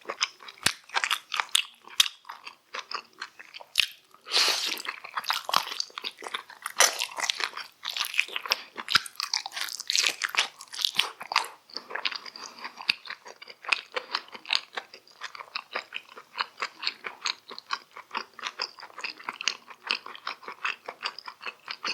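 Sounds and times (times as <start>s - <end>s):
chewing and crunching food: 0.0s - 21.9s.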